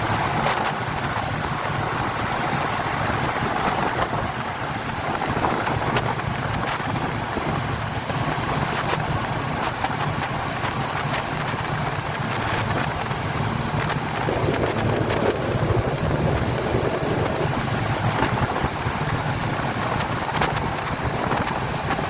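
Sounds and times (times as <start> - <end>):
speedboat engine running: 0.0 - 22.0
water rushing: 0.0 - 22.0
wind buffeting microphone: 0.0 - 22.0.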